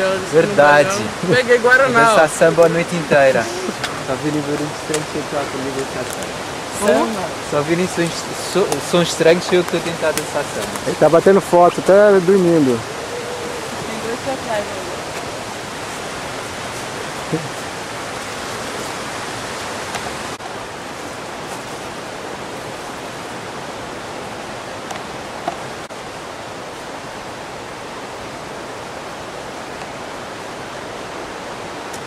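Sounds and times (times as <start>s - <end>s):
flowing water rushing: 0.0s - 32.0s.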